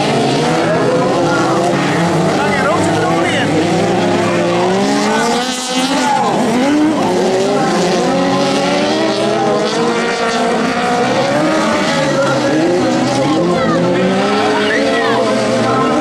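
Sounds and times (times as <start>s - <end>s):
race car engines accelerating: 0.0s - 16.0s.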